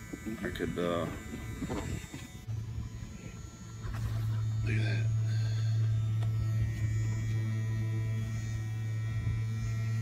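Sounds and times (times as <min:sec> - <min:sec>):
small trimmer motor humming: 0:00.0 - 0:10.0.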